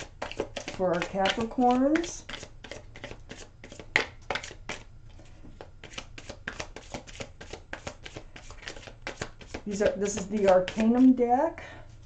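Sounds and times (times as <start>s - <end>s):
cards being shuffled: 0.0s - 4.9s, 5.6s - 11.1s.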